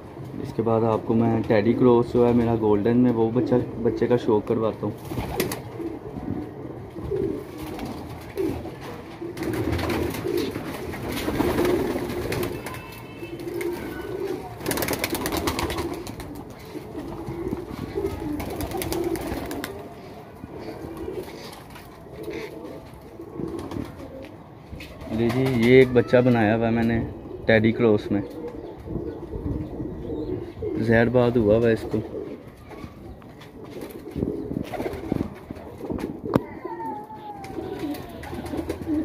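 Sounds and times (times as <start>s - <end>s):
pigeons cooing: 3.2s - 39.0s.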